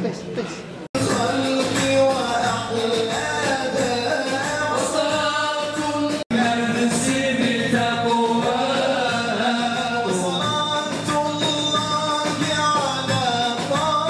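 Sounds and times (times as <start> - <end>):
man singing into a microphone: 1.0 - 14.0.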